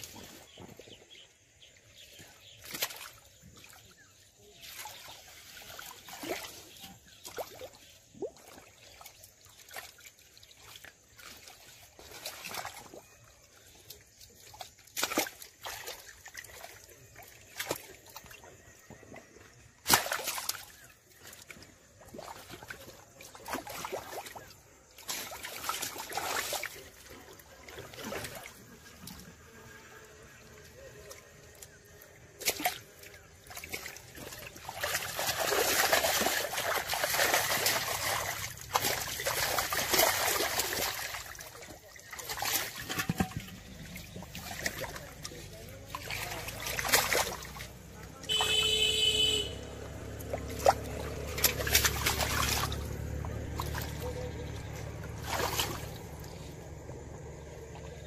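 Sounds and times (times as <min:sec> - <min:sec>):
hands splashing in muddy water: 0:02.0 - 0:29.4, 0:30.8 - 0:58.0.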